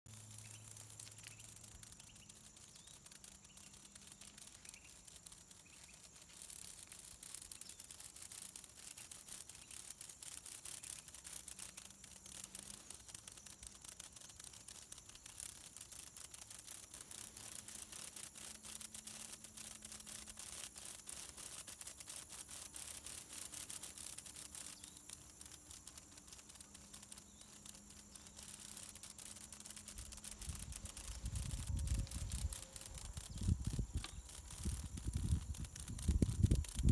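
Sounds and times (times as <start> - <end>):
insect chorus: 0.1 - 36.9.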